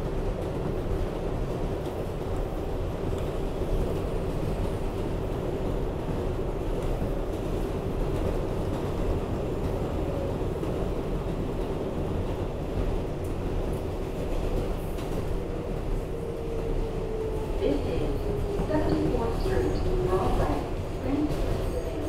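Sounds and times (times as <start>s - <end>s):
subway wheels rumbling on rail: 0.0s - 22.0s.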